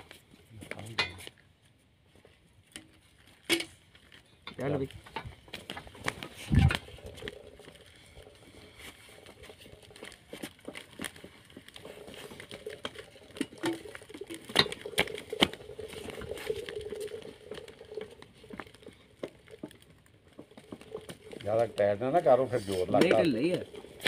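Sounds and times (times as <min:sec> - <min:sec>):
cane crackling and snapping: 0:02.6 - 0:24.0.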